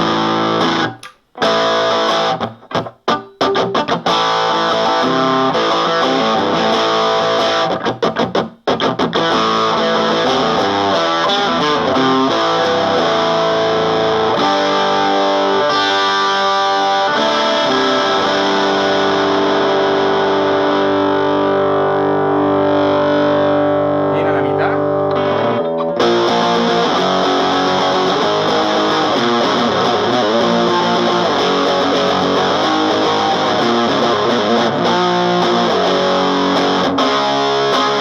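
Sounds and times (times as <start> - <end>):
distorted electric guitar chords: 0.0 - 38.0.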